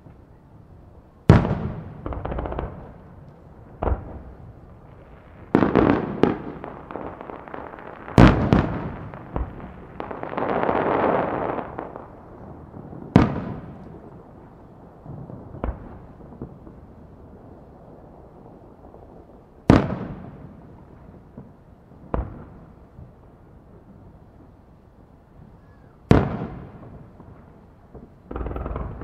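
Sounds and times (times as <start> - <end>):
fireworks bursting with bangs: 1.2 - 24.6, 25.3 - 29.0.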